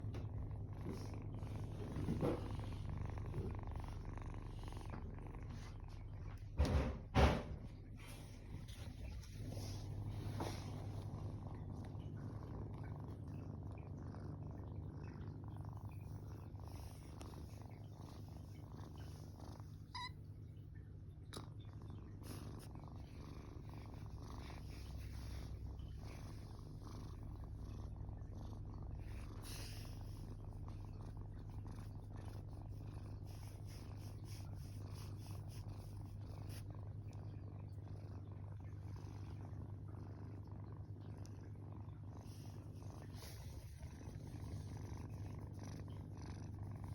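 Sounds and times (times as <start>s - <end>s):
kitten purring: 0.0s - 46.9s.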